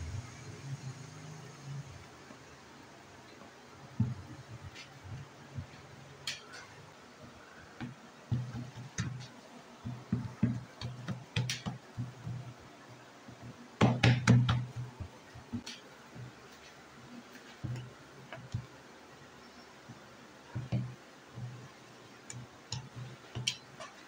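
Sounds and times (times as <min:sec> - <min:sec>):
hands patting dough in tray: 0:03.3 - 0:18.8, 0:19.4 - 0:24.0.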